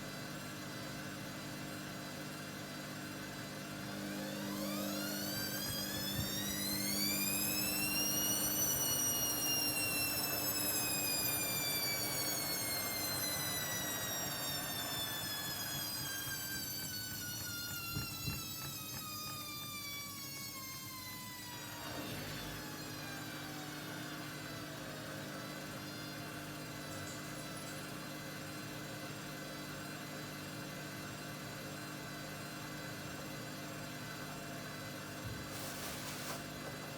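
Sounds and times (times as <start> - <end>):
washing machine drum whine: 0.0 - 36.9.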